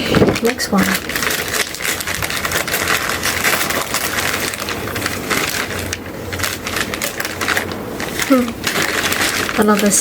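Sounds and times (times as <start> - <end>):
gift wrapping tearing and crinkling: 0.0 - 10.0.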